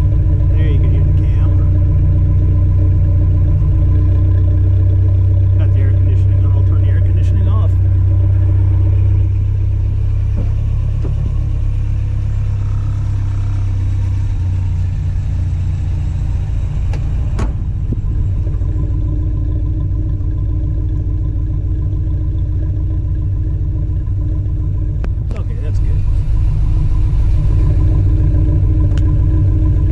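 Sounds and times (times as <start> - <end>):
engine idling through exhaust: 0.0 - 29.9.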